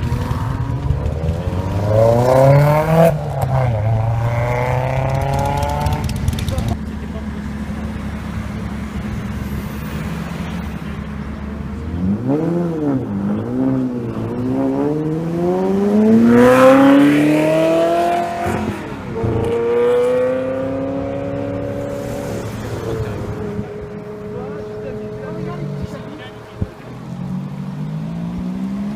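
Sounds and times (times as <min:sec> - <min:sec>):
supercar engine revving and accelerating: 0:00.0 - 0:06.8, 0:11.2 - 0:28.9.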